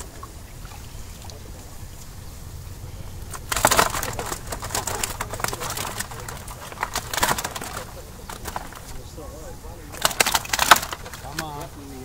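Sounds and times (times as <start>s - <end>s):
crackling and rustling: 0.0s - 12.0s
low steady hum: 0.0s - 12.0s.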